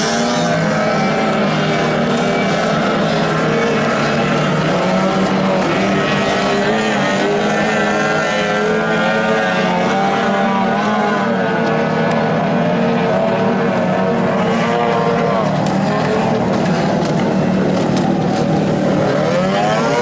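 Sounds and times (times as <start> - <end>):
racing boat engines: 0.0 - 20.0.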